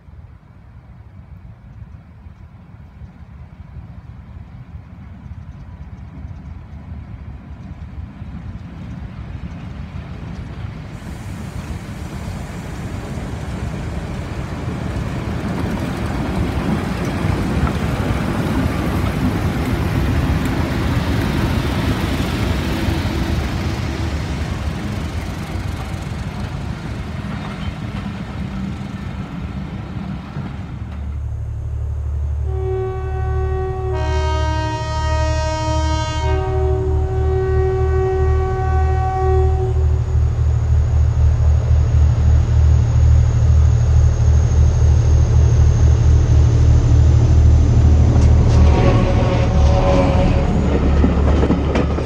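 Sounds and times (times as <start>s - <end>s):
diesel locomotive passing: 0.0s - 52.0s
coaches rumbling on the track: 1.2s - 52.0s.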